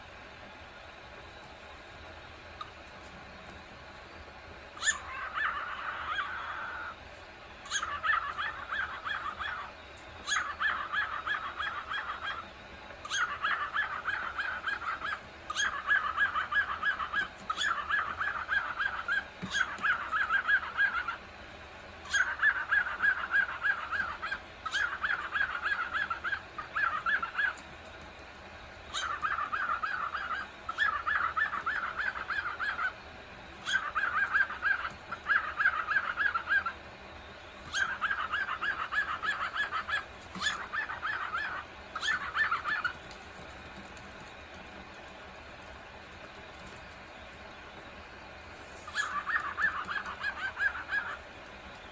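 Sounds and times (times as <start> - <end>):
cockatiel chattering calls: 4.7 - 7.0, 7.6 - 21.3, 22.0 - 47.5, 48.2 - 51.9.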